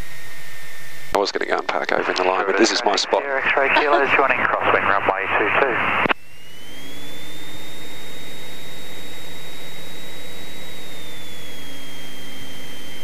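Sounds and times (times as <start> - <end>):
aircraft engine drone and whine: 0.0 - 13.0.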